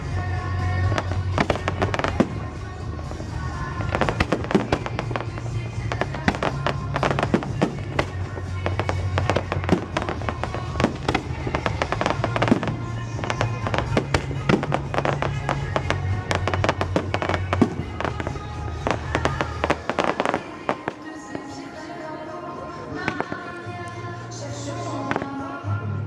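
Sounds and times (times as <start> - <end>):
music with steady bass line: 0.0 - 21.1, 22.0 - 26.0
fireworks bangs and crackles: 0.0 - 24.0, 24.8 - 25.6.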